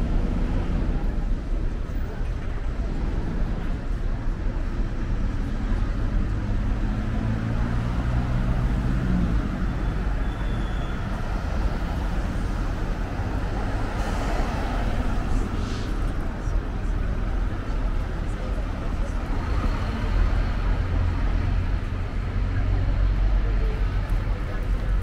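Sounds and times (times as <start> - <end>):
cars driving past: 4.7 - 25.0.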